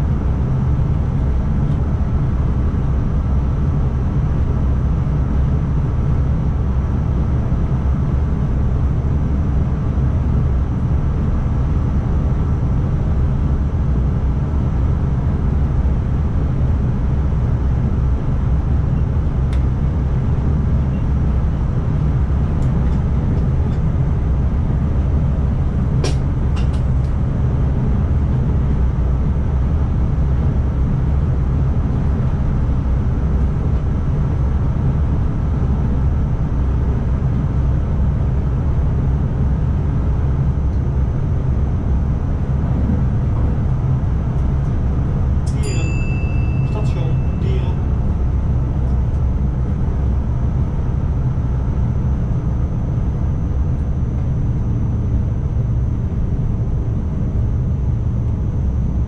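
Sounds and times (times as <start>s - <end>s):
electric train rumbling along track: 0.0s - 59.0s.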